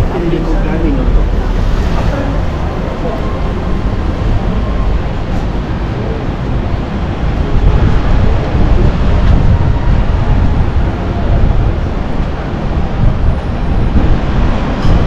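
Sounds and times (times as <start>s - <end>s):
traffic rumble: 0.0s - 15.0s
wind buffeting microphone: 0.0s - 15.0s.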